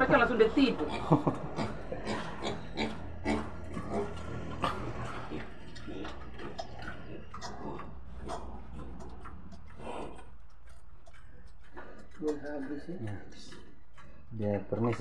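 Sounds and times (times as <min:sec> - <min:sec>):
pig chomping and snuffling: 0:00.1 - 0:15.0.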